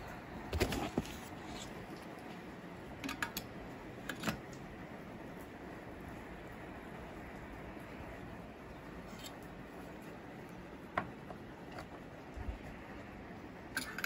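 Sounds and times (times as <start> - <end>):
steady fan-like hum: 0.0 - 14.0.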